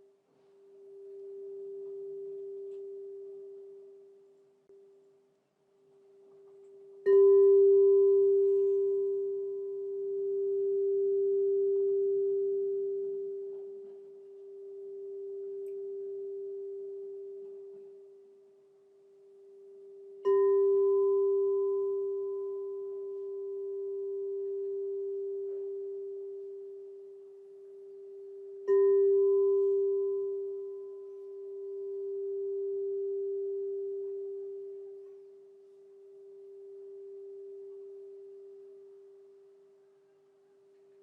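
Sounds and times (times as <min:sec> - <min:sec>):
crystal singing bowl ringing: 0:00.6 - 0:04.4, 0:06.2 - 0:39.7.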